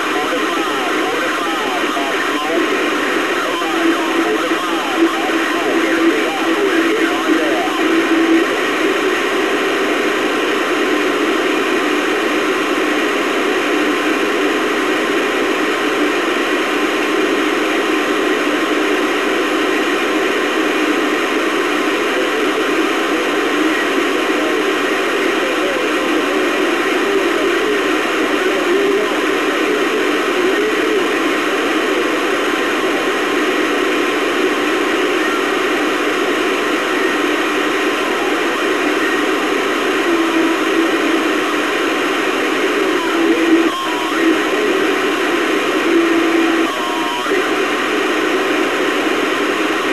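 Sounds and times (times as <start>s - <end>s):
faint wavering radio signals: 0.0s - 49.9s
radio static hiss: 0.0s - 49.9s.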